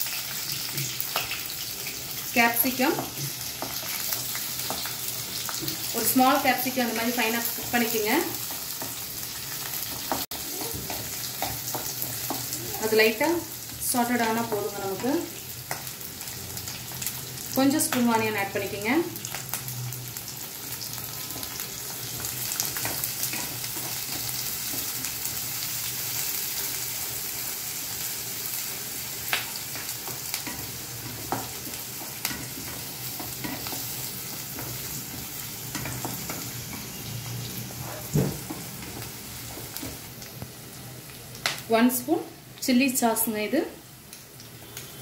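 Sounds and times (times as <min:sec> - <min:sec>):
vegetables sizzling in hot oil: 0:00.0 - 0:45.0.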